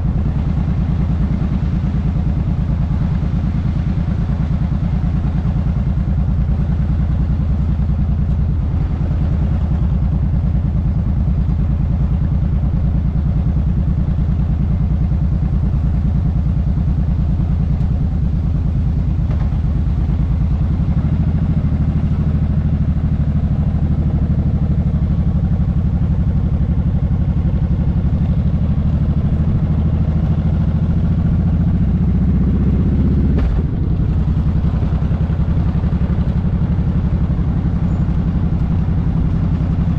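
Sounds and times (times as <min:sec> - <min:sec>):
motorcycle engine running: 0:00.0 - 0:39.9
rushing air and road noise: 0:00.0 - 0:39.9.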